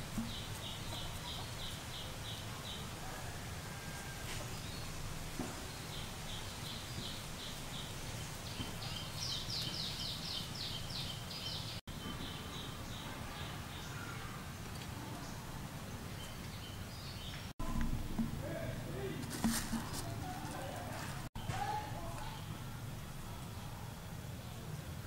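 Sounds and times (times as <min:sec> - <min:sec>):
bird chirping: 0:00.0 - 0:24.9
low background noise: 0:00.0 - 0:25.0.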